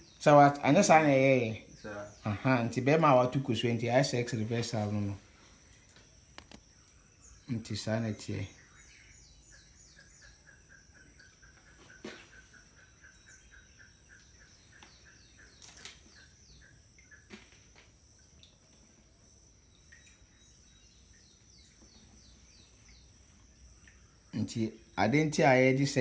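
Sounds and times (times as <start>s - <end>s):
birds chirping: 0.0s - 19.0s, 19.6s - 26.0s
insects trilling: 0.0s - 26.0s.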